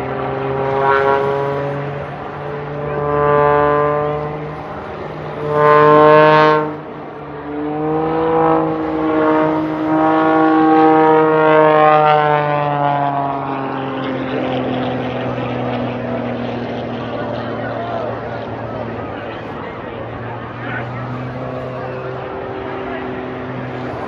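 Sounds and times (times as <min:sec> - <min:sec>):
propeller plane engine: 0:00.0 - 0:24.0.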